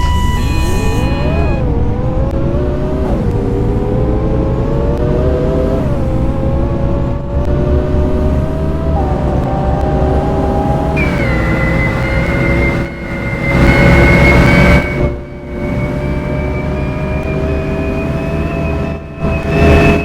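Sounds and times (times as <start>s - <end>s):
bus engine accelerating: 0.0s - 20.0s.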